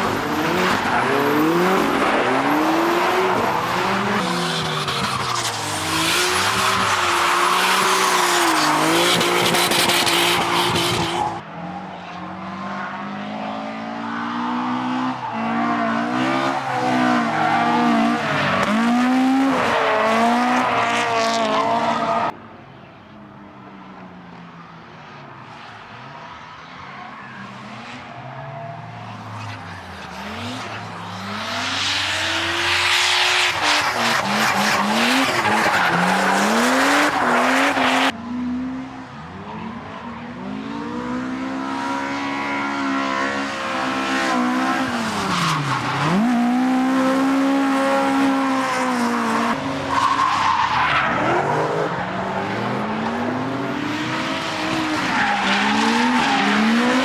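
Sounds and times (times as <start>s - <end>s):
tyres squealing and skidding: 0.0s - 22.3s, 26.1s - 38.2s, 41.8s - 57.0s.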